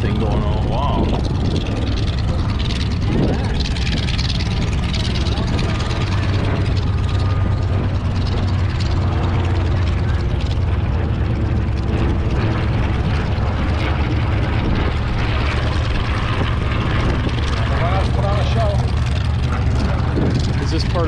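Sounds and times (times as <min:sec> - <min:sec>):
propeller airplane engines droning: 0:00.0 - 0:21.0.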